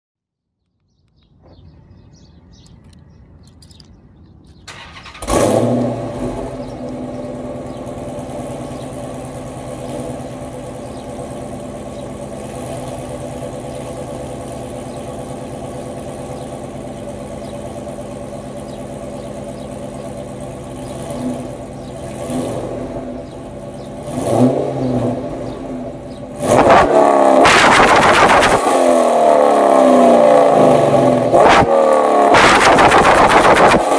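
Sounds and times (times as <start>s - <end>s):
car engine starting and idling: 2.5s - 33.9s
car engine revving: 4.7s - 33.9s.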